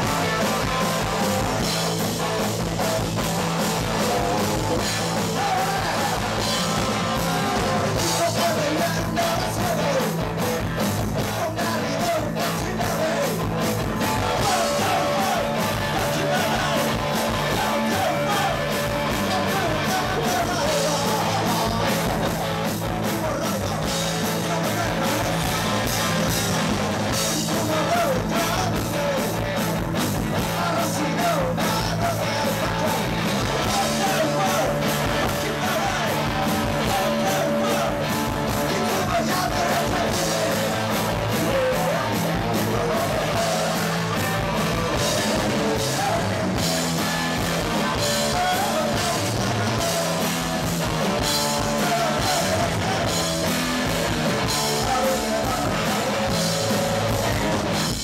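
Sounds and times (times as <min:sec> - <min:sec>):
electric guitar: 0:00.0 - 0:58.0
person singing: 0:00.0 - 0:58.0
steady drum beat: 0:00.0 - 0:58.0.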